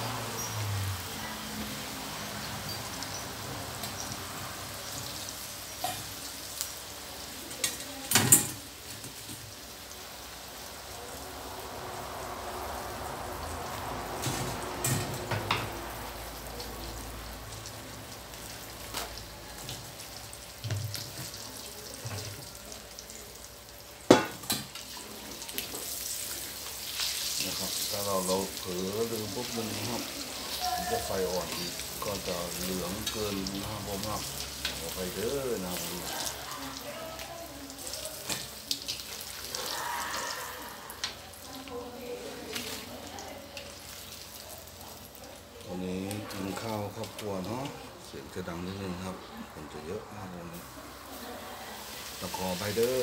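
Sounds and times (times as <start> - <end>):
dumplings sizzling in hot oil: 0.0 - 53.0.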